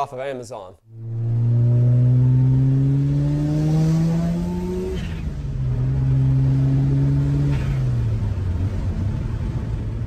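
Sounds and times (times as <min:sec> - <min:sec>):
car engine accelerating: 0:00.9 - 0:10.0.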